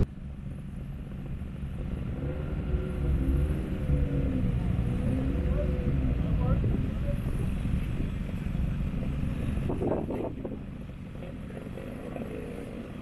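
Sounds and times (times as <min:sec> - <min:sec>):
distant racing car engine: 0:00.0 - 0:13.0.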